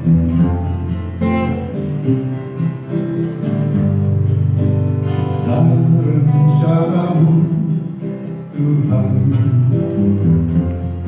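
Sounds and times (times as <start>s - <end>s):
acoustic guitar strumming: 0.0s - 11.0s
sustained bass notes: 0.0s - 11.0s.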